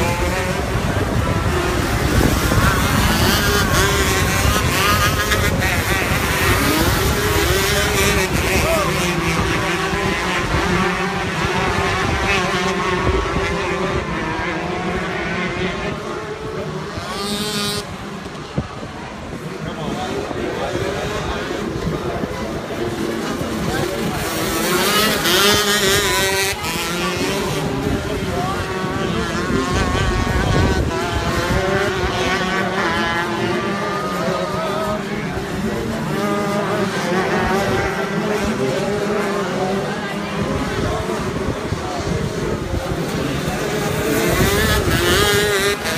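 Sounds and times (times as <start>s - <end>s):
kart engine at high revs: 0.0s - 45.9s.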